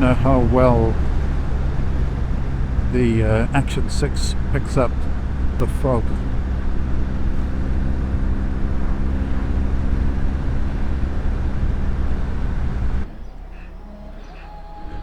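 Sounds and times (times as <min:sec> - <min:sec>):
motorcycle engine running: 0:00.0 - 0:13.2
wind rushing: 0:00.0 - 0:13.3.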